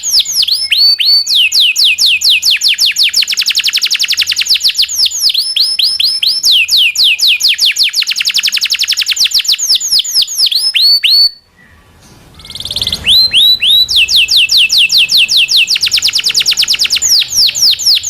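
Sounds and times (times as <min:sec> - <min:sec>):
canary singing with trills: 0:00.0 - 0:18.0.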